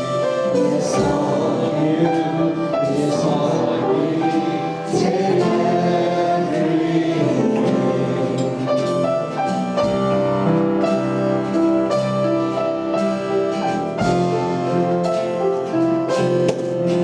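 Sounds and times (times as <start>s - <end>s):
congregation singing: 0.0s - 17.0s
piano and keyboard: 0.0s - 17.0s.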